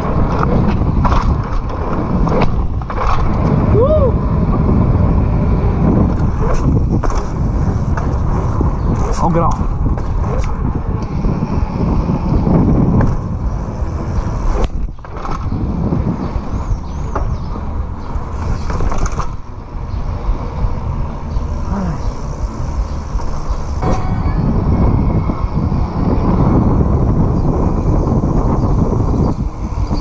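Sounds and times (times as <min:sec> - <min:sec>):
bike tyres rumbling: 0:00.0 - 0:30.0
wind rushing on microphone: 0:00.0 - 0:30.0.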